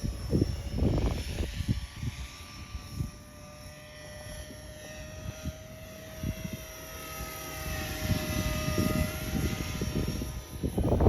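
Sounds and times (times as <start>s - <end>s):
rc helicopter rotor whine: 0.0s - 11.0s
wind buffeting microphone: 0.0s - 11.0s.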